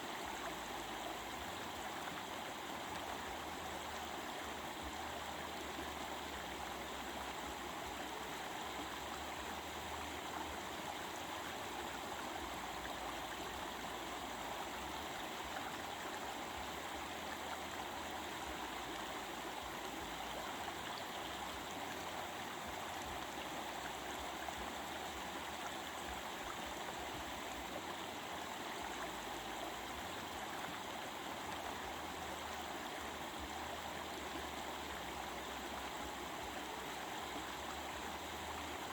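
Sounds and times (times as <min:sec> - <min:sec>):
stream water rushing over rocks: 0:00.0 - 0:38.9.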